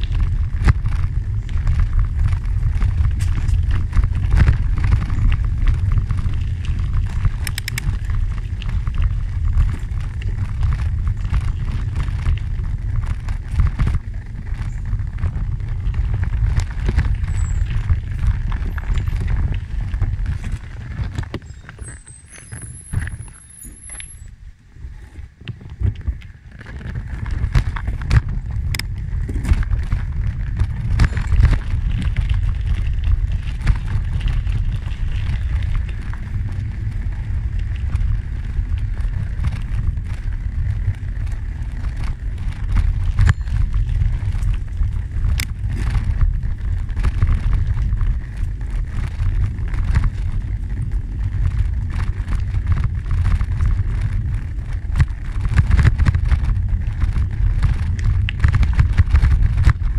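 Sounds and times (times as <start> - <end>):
tyres crunching on gravel: 0.0 - 59.9
wind buffeting microphone: 0.0 - 59.9.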